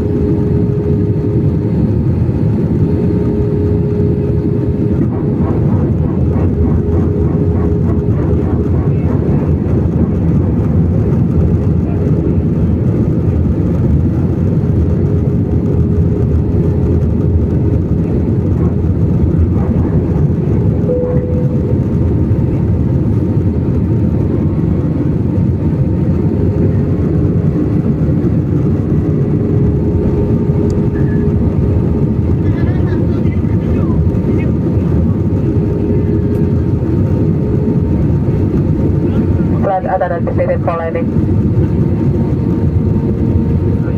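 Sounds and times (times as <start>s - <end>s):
engine and airflow rumble: 0.0s - 43.9s.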